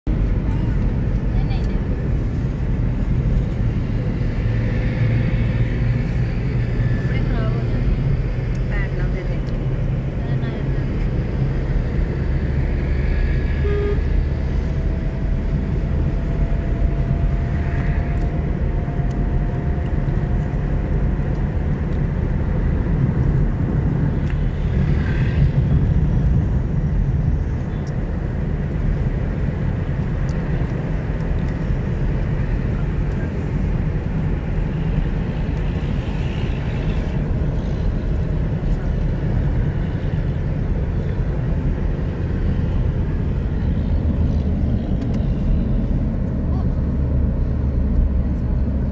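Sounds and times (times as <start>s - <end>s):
car road and engine rumble: 0.0s - 48.9s.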